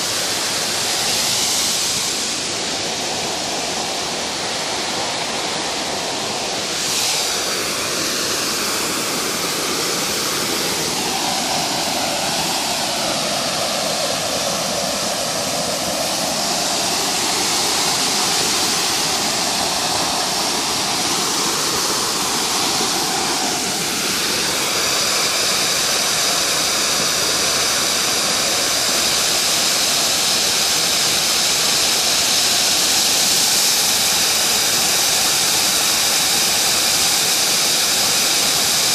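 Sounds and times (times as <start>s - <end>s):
waterfall pouring into a pond: 0.0s - 38.9s.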